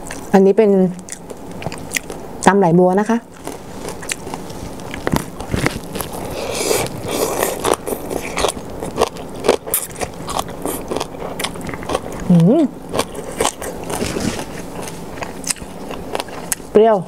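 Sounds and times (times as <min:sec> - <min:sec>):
crisp chewing crunches: 0:00.9 - 0:02.5, 0:03.2 - 0:16.8.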